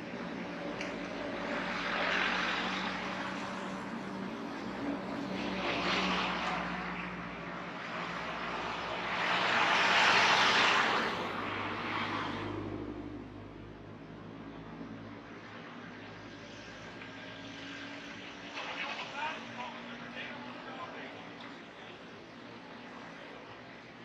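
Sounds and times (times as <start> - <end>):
cars passing on road: 0.0 - 24.0.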